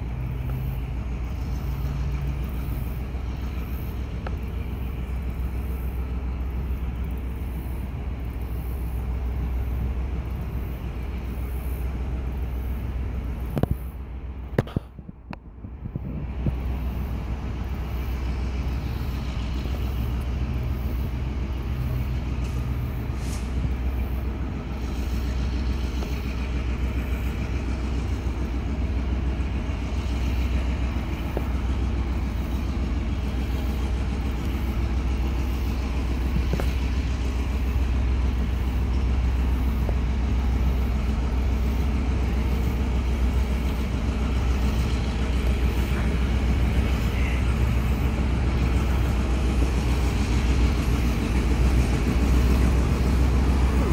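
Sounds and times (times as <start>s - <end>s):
diesel locomotive engine throbbing: 0.0s - 53.9s.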